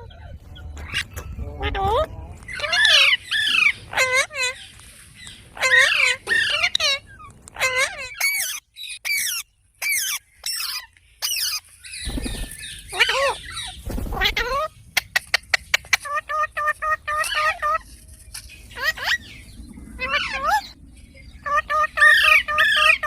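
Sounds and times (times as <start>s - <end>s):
parrot calling: 0.0s - 11.6s, 12.8s - 17.8s, 20.0s - 20.8s, 21.4s - 23.0s.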